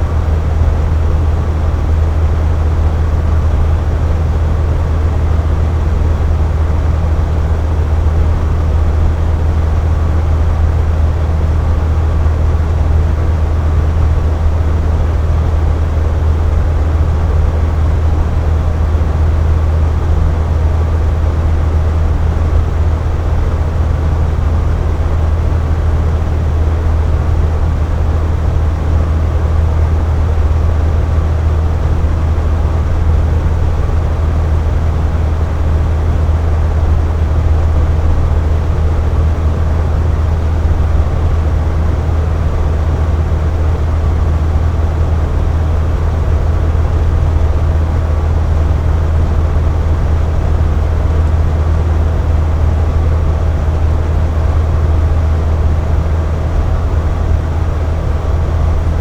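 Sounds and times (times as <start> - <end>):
air conditioner droning: 0.0 - 59.0.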